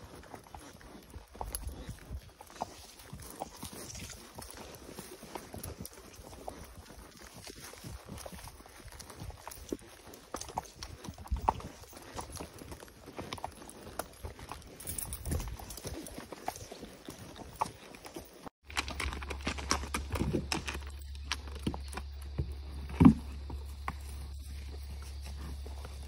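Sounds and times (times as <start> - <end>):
horse hooves clopping on dirt: 0.0 - 26.0.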